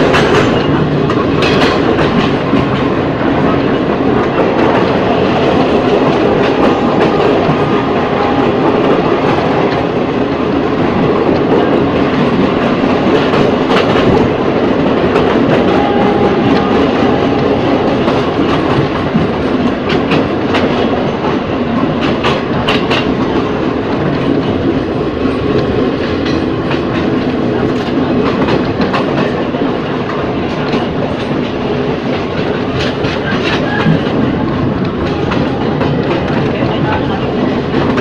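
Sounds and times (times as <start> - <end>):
train wheels rumbling on rail: 0.0 - 38.0
wheels clacking over rail joints: 0.0 - 38.0.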